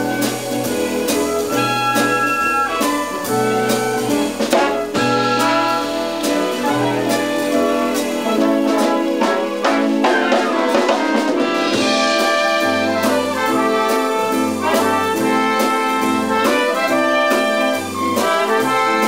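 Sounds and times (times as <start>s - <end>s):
jazzy brass band music: 0.0s - 19.0s.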